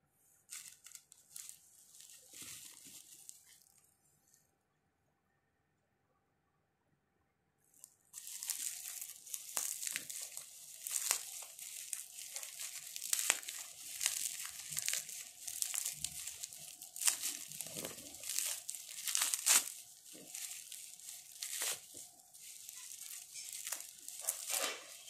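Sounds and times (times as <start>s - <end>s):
bubble wrap crinkling: 0.4s - 4.0s, 8.1s - 25.0s.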